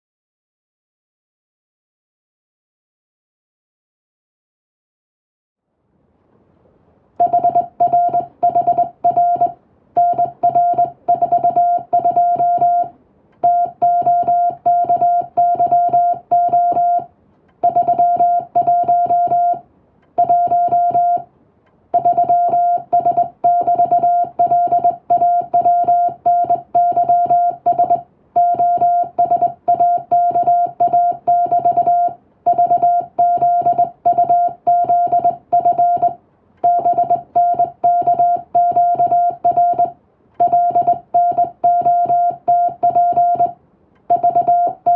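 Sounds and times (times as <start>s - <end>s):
morse code beeps: 7.2s - 19.6s, 20.2s - 21.3s, 21.9s - 44.9s.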